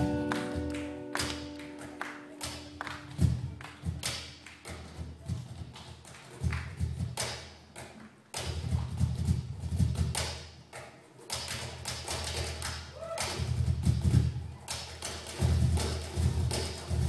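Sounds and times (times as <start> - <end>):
cajon thumps and slaps: 0.0 - 17.0.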